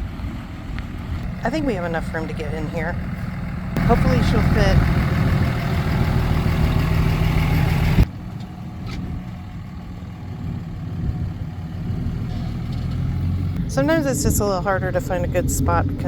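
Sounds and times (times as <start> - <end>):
pickup truck engine running: 0.0 - 16.0.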